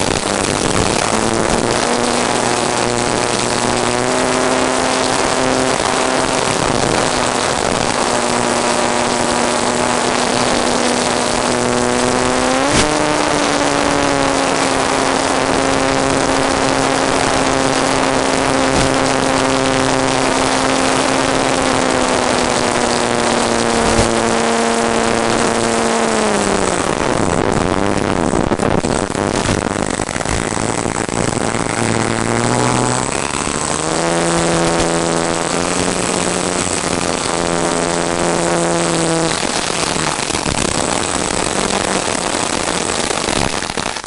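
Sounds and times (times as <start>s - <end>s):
model airplane motor: 0.0s - 44.0s
rush of air: 0.0s - 44.0s.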